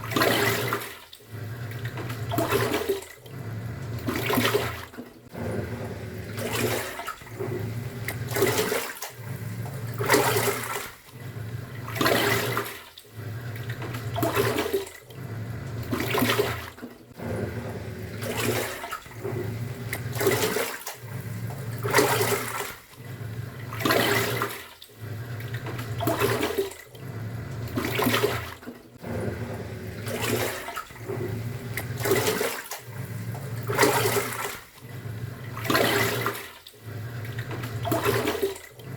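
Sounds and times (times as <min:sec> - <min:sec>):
washing machine motor turning: 0:00.0 - 0:38.9
water and laundry churning: 0:00.0 - 0:38.9.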